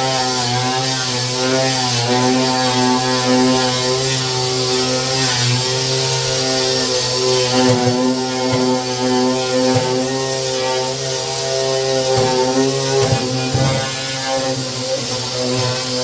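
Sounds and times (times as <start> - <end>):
power sander grinding steel: 0.0 - 16.0.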